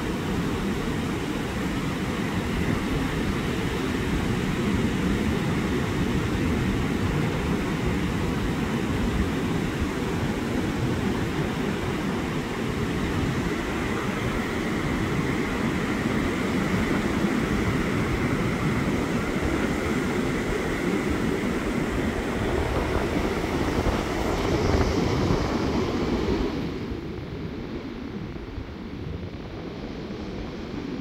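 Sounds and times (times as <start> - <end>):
ocean surf rushing: 0.0 - 31.0.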